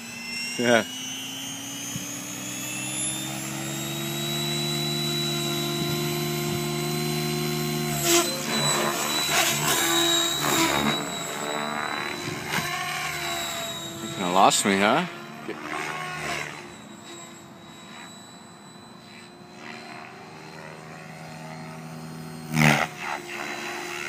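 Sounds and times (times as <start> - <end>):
rc helicopter motor and rotor whine: 0.0 - 24.0.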